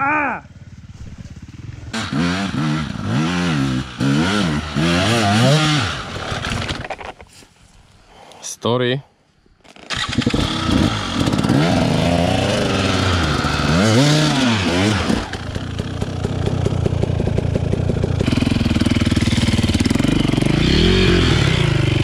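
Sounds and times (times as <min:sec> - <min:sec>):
motorcycle engine revving: 0:00.0 - 0:06.9, 0:09.8 - 0:22.0.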